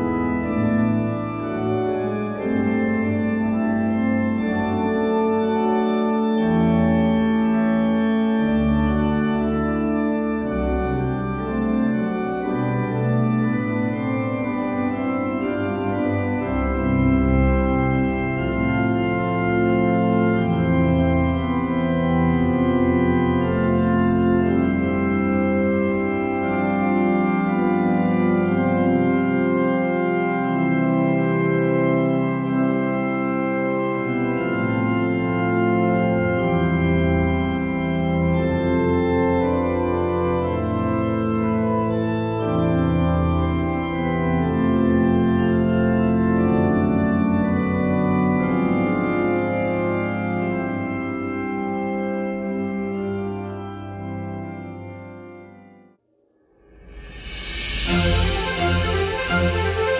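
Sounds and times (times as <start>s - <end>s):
organ bass line: 0.0s - 55.7s, 56.8s - 59.9s
organ chords: 0.0s - 56.0s, 56.7s - 59.9s.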